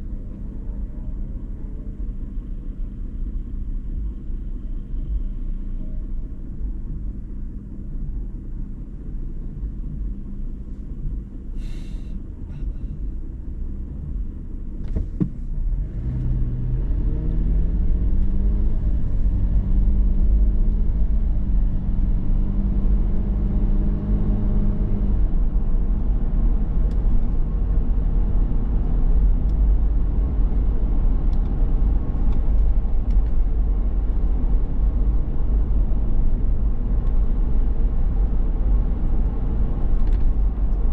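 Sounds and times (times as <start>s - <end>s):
car engine rumbling: 0.0s - 40.9s
road noise: 0.0s - 40.9s.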